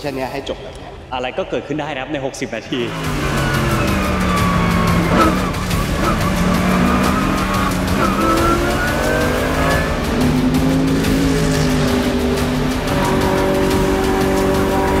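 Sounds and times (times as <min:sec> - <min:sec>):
racing car engine from cockpit: 0:02.8 - 0:15.0.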